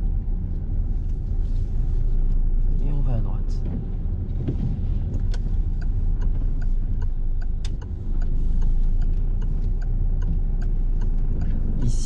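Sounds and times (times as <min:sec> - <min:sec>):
engine and tyre rumble: 0:00.0 - 0:12.0
turn signal ticking: 0:00.0 - 0:12.0.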